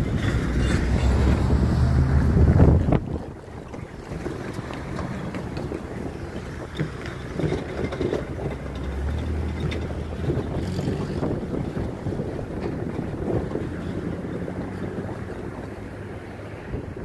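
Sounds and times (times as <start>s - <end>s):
cars and trucks rumbling: 0.0s - 17.0s
wind buffeting microphone: 0.0s - 17.0s.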